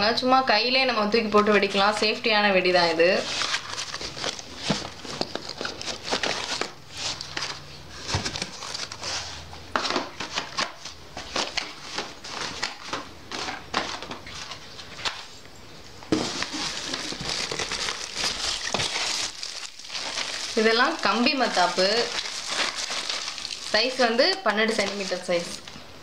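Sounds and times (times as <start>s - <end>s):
packets rustling and crinkling: 2.8s - 15.5s, 16.1s - 26.0s.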